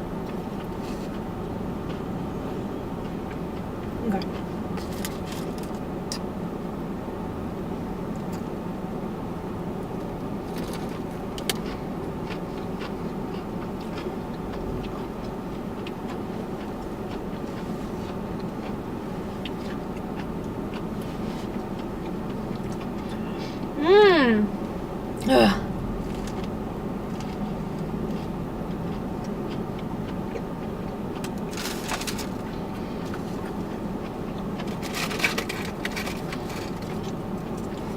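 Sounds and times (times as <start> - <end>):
car engine idling hum: 0.0 - 37.9.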